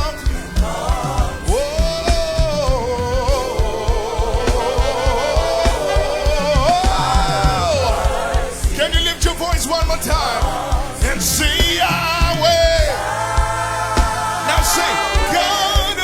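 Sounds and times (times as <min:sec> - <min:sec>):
band with bass and drums: 0:00.0 - 0:16.0
person singing lead: 0:00.0 - 0:16.0.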